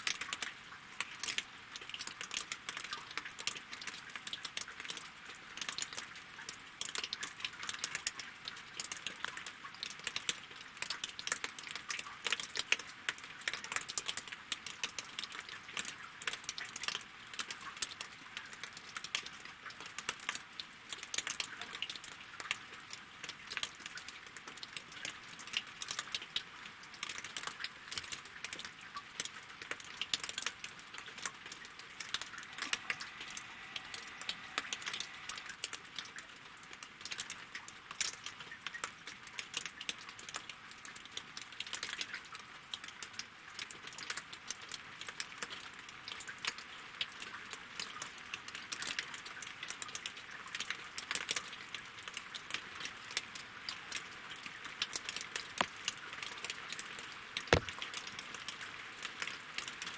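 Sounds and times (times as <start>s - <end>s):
rain drops pattering on water and logs: 0.0s - 59.9s.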